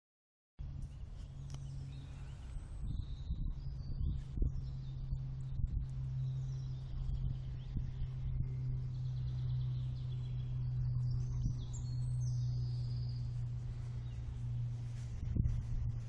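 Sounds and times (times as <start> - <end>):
birds chirping: 0.6 - 16.0
low outdoor hum: 0.6 - 16.0.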